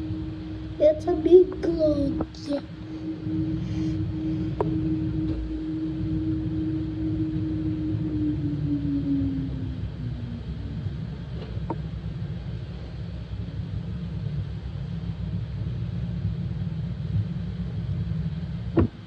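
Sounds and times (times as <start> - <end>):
washing machine rumbling: 0.0 - 19.0.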